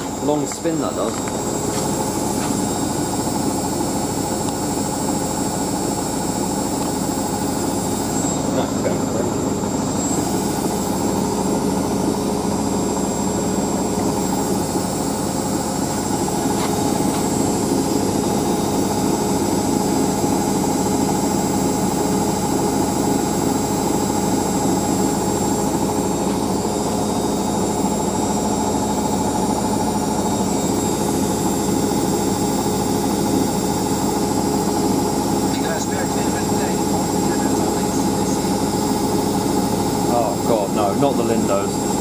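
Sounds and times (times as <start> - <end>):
high whine: 0.0 - 42.0
washing machine spinning: 0.0 - 42.0.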